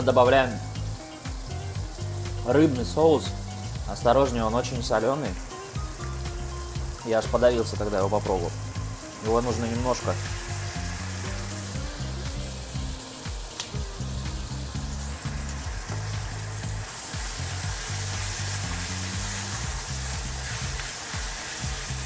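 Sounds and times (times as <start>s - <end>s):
vegetables sizzling in a saucepan: 0.0s - 22.0s.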